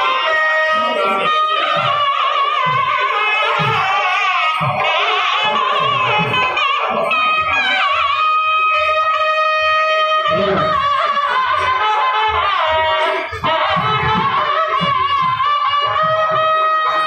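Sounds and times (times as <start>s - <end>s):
drum strokes: 0.0s - 17.0s
nadaswaram melody: 0.0s - 17.0s.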